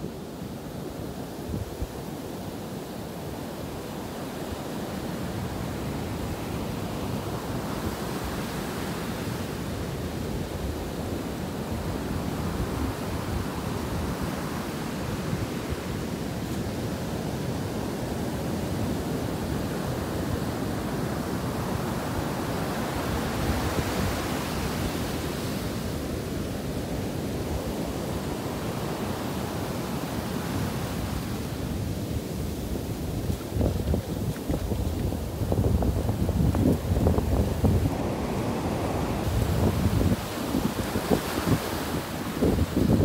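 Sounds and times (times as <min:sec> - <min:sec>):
surf washing up a beach: 0:00.0 - 0:43.0.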